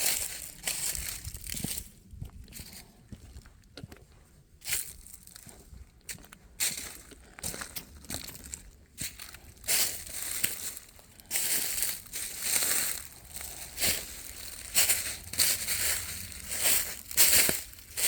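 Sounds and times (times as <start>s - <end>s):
footsteps crunching on dry trail: 0.0s - 18.0s.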